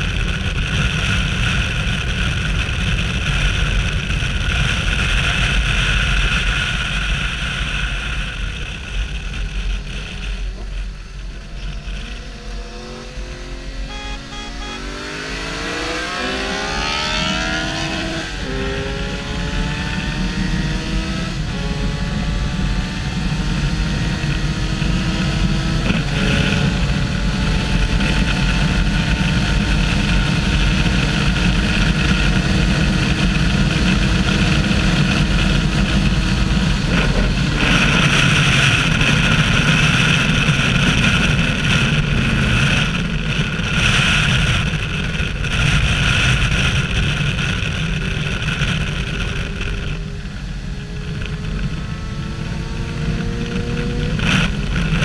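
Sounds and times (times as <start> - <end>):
motorcycle engine accelerating: 0.0 - 55.0
wind on microphone: 0.0 - 55.0.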